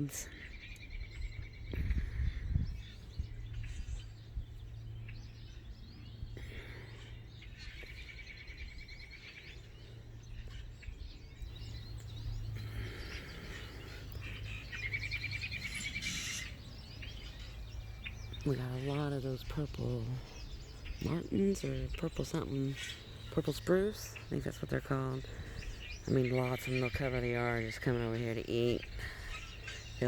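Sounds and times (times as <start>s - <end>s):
songbirds chirping and trilling: 0.0s - 30.0s.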